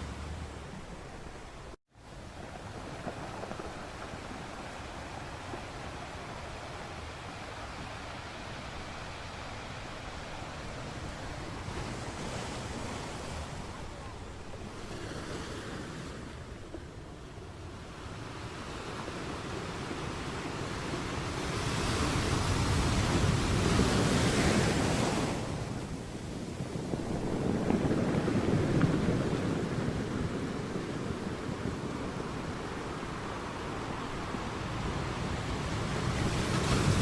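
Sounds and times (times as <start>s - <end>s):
sea waves on the shore: 0.0s - 37.0s.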